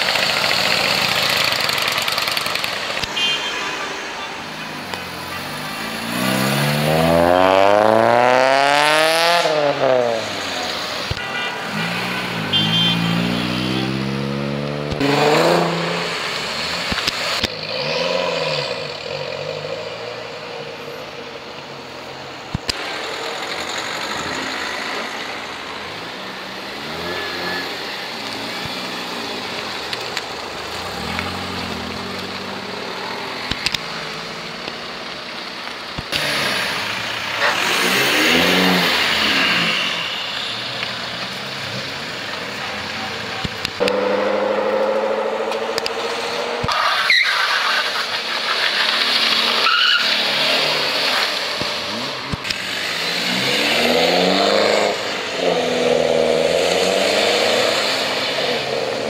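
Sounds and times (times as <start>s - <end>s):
car engines revving and accelerating: 0.0s - 59.0s.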